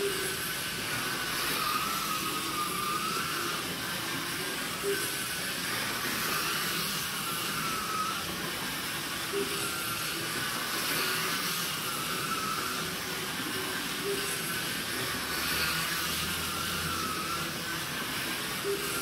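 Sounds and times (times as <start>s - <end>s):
slot car motors whining: 0.0s - 19.0s
steady hiss: 0.0s - 19.0s.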